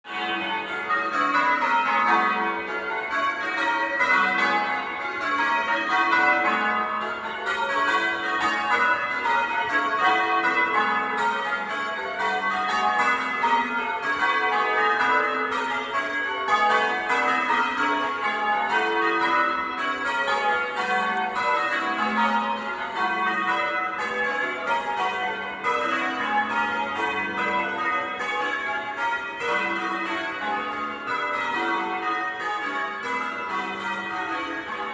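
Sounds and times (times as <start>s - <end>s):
church bells change ringing: 0.0s - 34.9s.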